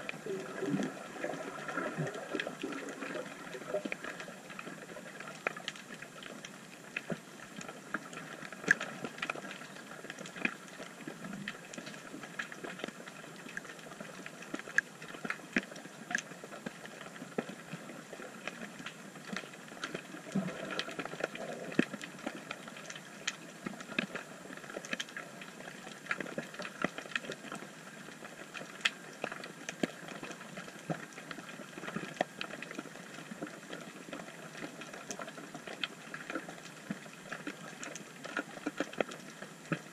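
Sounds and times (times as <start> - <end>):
sharp underwater clicks and crackles: 0.0 - 39.9.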